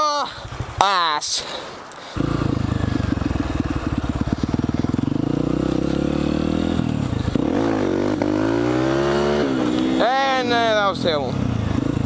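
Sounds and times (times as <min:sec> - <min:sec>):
dirt bike engine running: 0:02.2 - 0:12.0.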